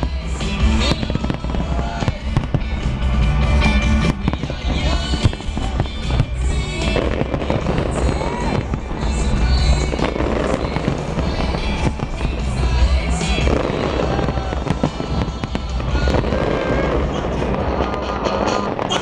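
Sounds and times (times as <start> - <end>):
fireworks bursting and crackling: 0.0 - 19.0
loud music with heavy bass: 0.0 - 19.0.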